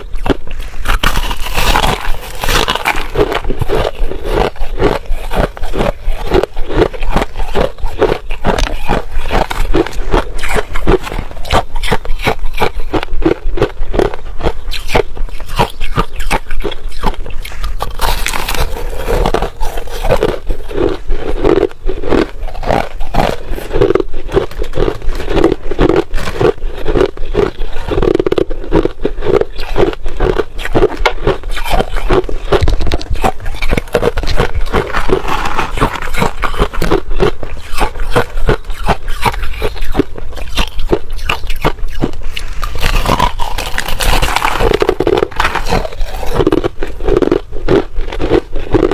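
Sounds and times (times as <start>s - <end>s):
low pulsing chewing: 0.0s - 48.9s
ice crunching: 0.2s - 12.8s, 14.8s - 28.1s, 28.8s - 48.9s.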